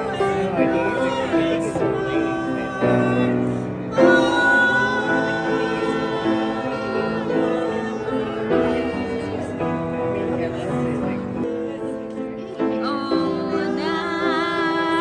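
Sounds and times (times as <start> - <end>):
person singing: 0.0 - 10.5, 11.4 - 15.0
piano playing chords: 0.0 - 15.0.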